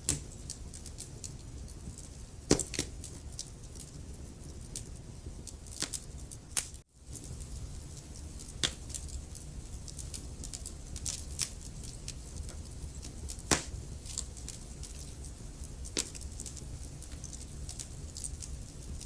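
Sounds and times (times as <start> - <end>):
burning logs popping and snapping: 0.0 - 19.0
fire low rumble: 0.0 - 19.0.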